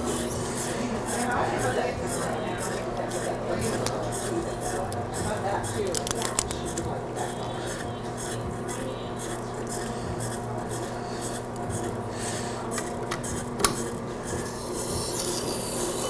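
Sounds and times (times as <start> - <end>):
scissor blade rubbing honing wheel: 0.0 - 16.0
sharpener motor hum: 0.0 - 16.0.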